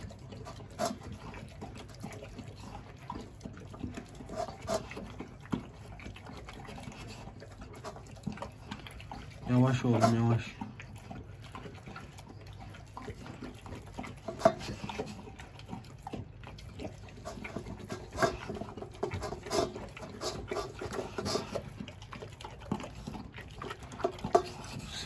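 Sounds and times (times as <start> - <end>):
dog chewing and smacking: 0.0 - 25.0.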